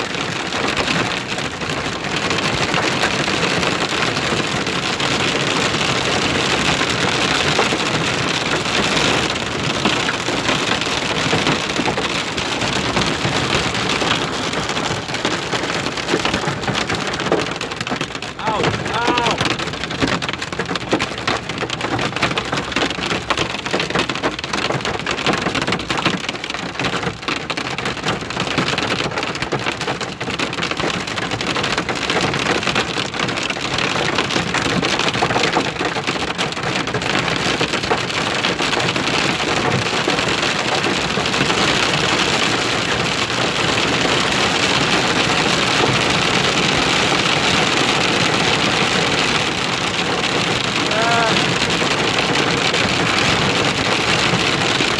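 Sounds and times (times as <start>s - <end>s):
hail and rain hitting surfaces: 0.0s - 54.9s.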